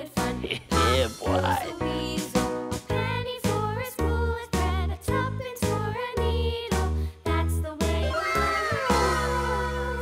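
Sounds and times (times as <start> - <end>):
bouncy children's music: 0.0 - 10.0.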